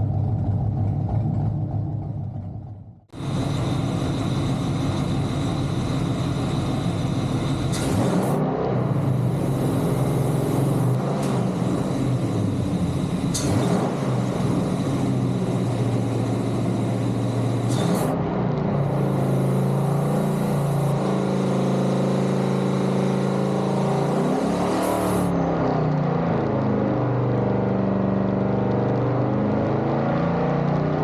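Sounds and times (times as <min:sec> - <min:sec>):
engine running on a dyno: 0:00.0 - 0:31.0.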